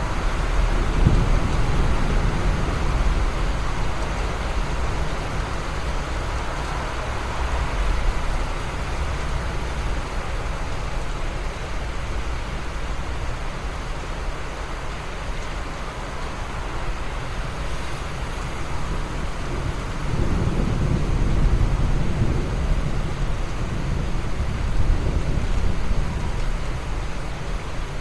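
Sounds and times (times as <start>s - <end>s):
rain hiss: 0.0s - 28.0s.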